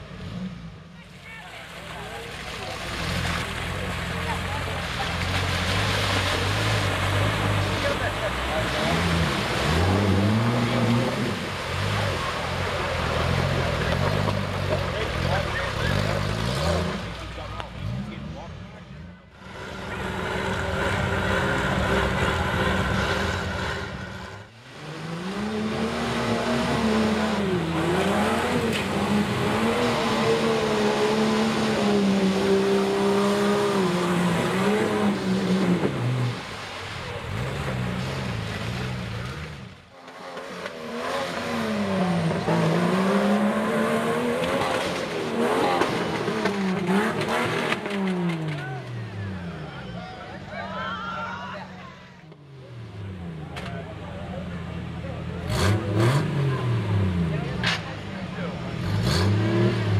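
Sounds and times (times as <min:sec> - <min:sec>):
engines revving hard: 0:02.0 - 0:50.0, 0:52.6 - 0:59.9.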